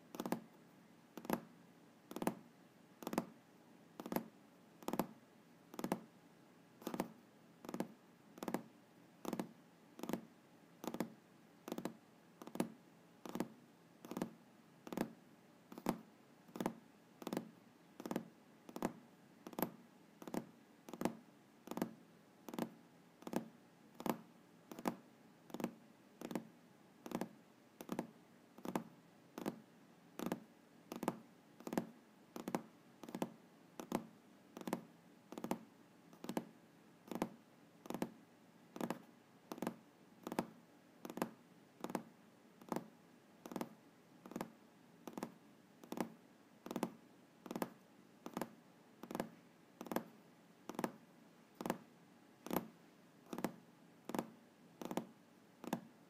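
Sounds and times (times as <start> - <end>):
fingers tapping on a desk: 0.1 - 0.5, 1.2 - 1.5, 2.1 - 2.4, 3.0 - 3.4, 4.0 - 6.1, 6.8 - 29.6, 30.2 - 36.5, 37.1 - 38.2, 38.8 - 50.1, 50.7 - 51.0, 51.6 - 51.8, 52.4 - 52.7, 53.3 - 55.9.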